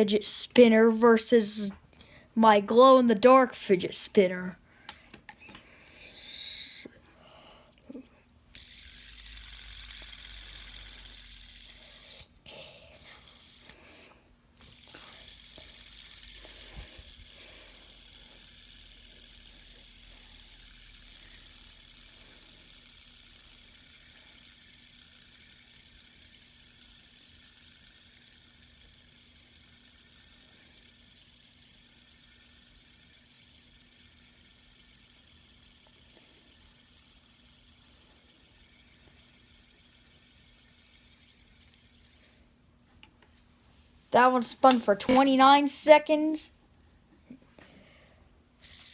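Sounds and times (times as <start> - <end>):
fidget spinners whirring: 0.0 - 42.7, 43.3 - 46.8, 47.8 - 48.9.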